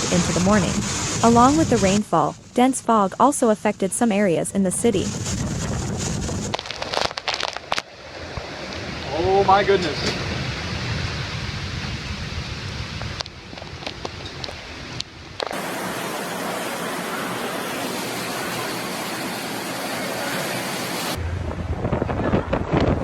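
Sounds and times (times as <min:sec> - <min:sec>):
heavy rain: 0:00.0 - 0:02.5, 0:05.1 - 0:23.0
wind: 0:00.0 - 0:23.0.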